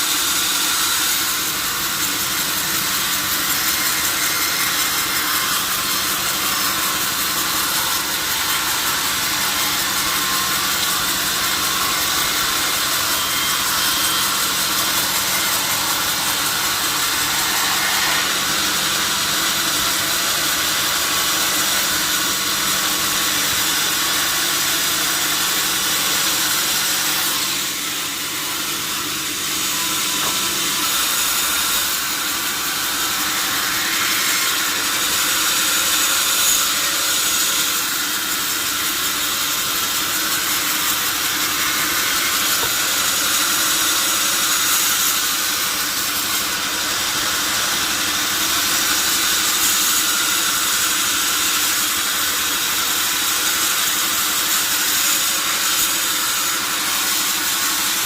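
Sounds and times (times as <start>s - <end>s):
saw cutting through a log: 0.0s - 58.0s.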